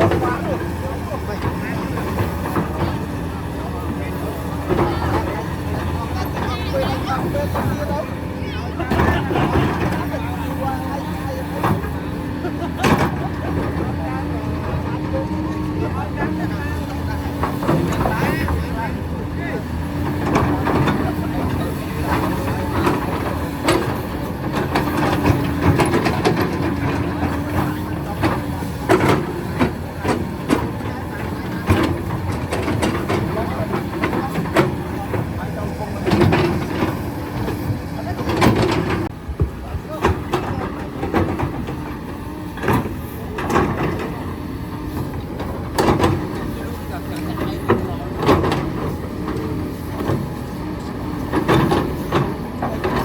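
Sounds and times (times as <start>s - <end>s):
excavator engine running: 0.0s - 53.0s.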